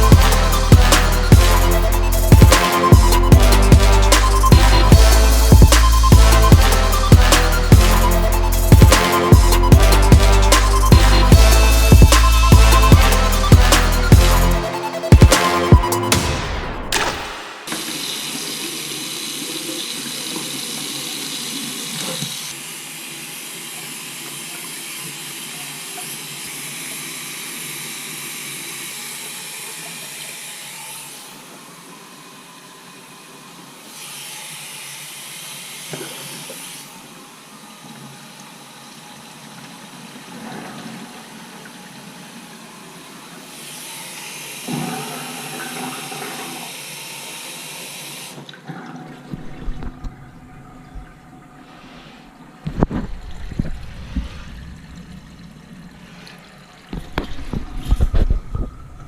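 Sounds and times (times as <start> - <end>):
water rushing through plumbing: 0.0 - 59.0.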